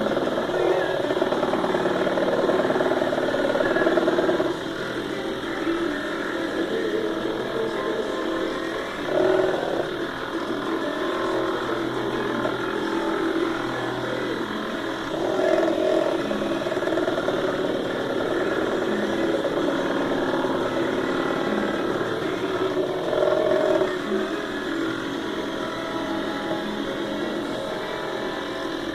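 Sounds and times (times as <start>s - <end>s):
stepper motors whining: 0.0s - 28.9s.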